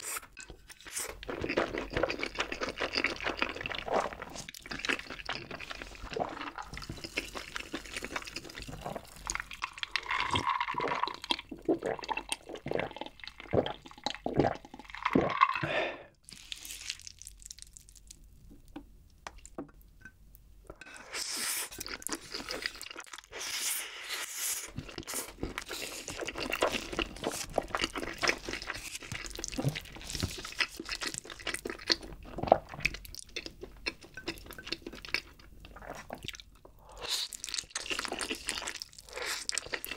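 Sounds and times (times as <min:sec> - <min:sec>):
wet chewing of noodles: 0:00.0 - 0:18.2, 0:20.8 - 0:39.9.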